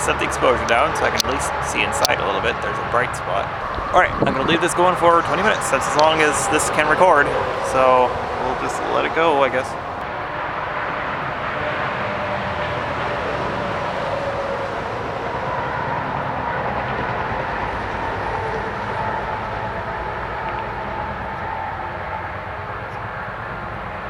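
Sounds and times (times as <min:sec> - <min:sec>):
steady rumbling noise: 0:00.0 - 0:24.0.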